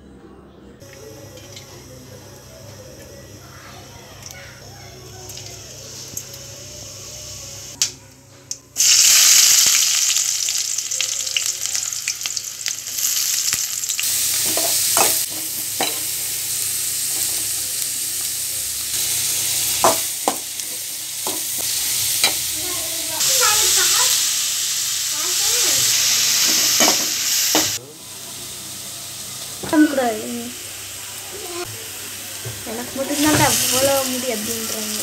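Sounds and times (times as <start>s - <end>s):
onions sizzling in hot oil: 0.8s - 7.8s, 8.8s - 35.0s.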